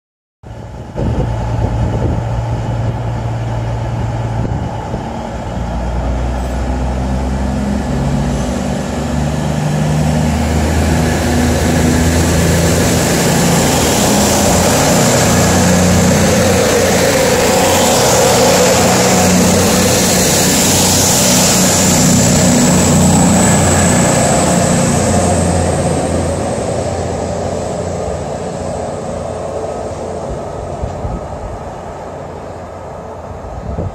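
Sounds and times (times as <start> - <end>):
diesel train engines: 0.4 - 33.9
train rushing past: 0.5 - 33.9.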